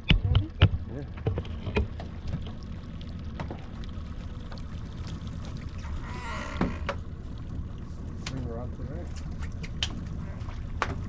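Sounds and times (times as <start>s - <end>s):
outboard motor running: 0.0s - 11.0s
rush of water: 0.0s - 11.0s
water sloshing along hull: 0.0s - 11.0s.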